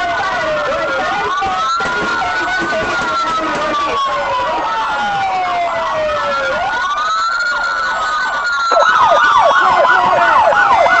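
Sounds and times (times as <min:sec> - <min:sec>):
fast yelping siren: 0:00.0 - 0:11.0
siren wailing: 0:00.0 - 0:11.0.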